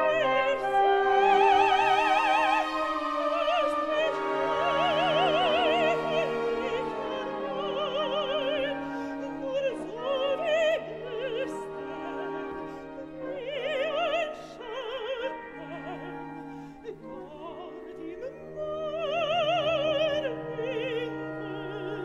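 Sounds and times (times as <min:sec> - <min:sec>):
soprano singing with vibrato: 0:00.0 - 0:22.0
sustained orchestra: 0:00.0 - 0:22.0.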